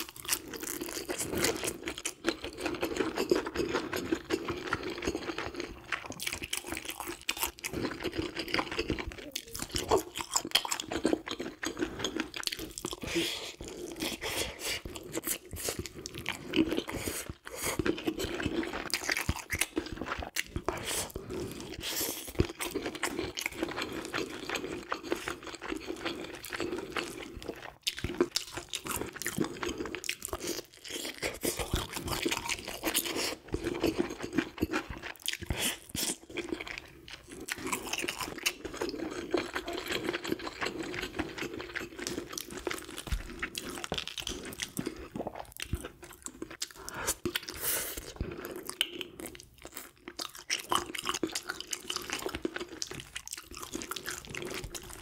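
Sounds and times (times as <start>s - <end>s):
chewing crunchy fish: 0.0s - 55.0s.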